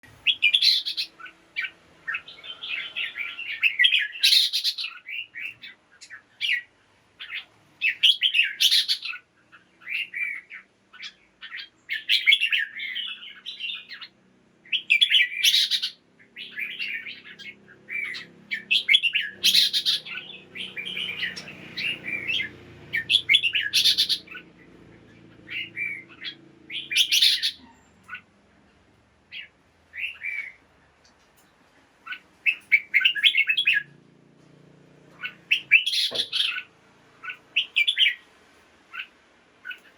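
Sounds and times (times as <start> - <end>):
bird chirping: 0.0 - 34.0, 35.1 - 38.3, 38.9 - 39.9.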